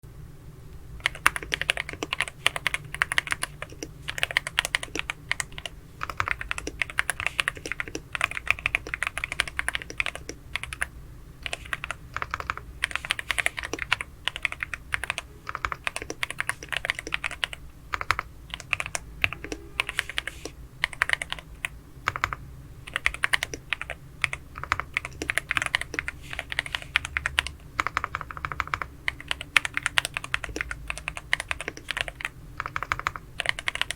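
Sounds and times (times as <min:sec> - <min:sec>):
typing on mechanical keyboard: 0:01.0 - 0:33.9.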